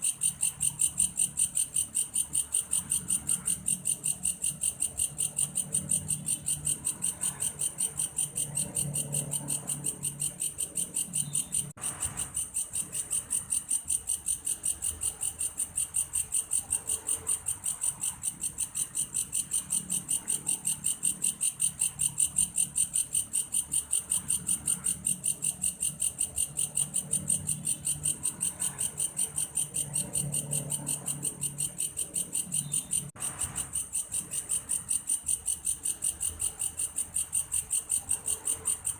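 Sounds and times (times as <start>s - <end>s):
grasshopper pulsed trill: 0.0s - 38.9s.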